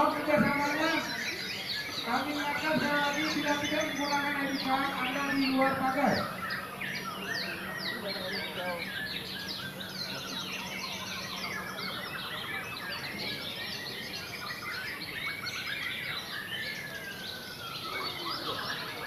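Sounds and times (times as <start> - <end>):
songbirds singing in chorus: 0.0 - 19.0.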